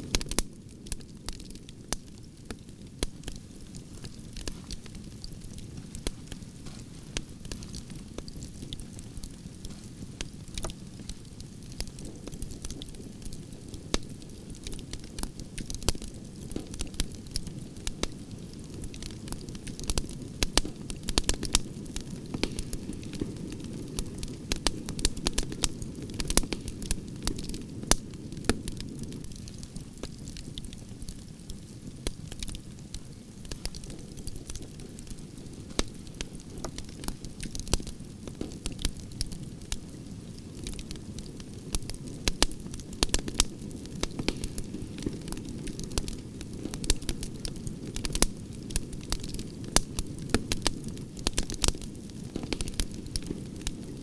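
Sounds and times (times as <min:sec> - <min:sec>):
fire crackling in a fireplace: 0:00.0 - 0:54.0.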